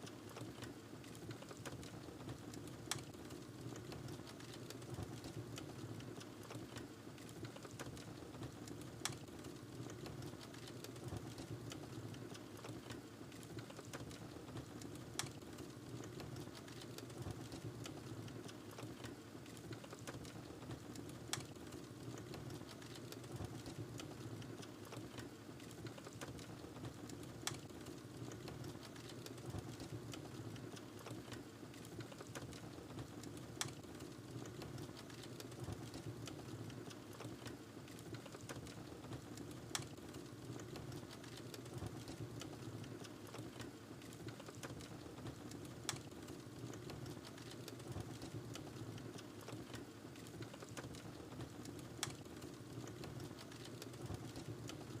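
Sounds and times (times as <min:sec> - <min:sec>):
wood fire burning: 0:00.6 - 0:55.0.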